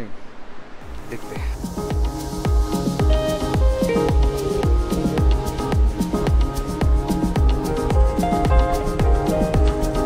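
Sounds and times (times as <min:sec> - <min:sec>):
background music with steady beat: 0:01.0 - 0:10.0.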